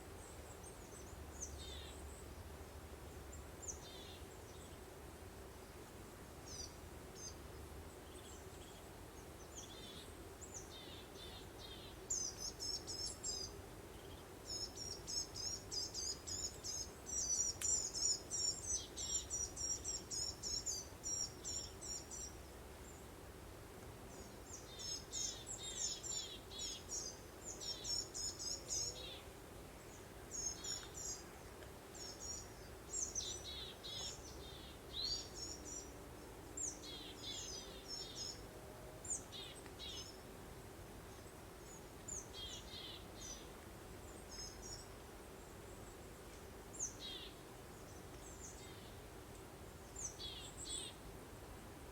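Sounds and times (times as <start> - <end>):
small songbirds chirping: 0.0 - 4.9, 5.5 - 23.2, 24.1 - 40.3, 41.0 - 51.0.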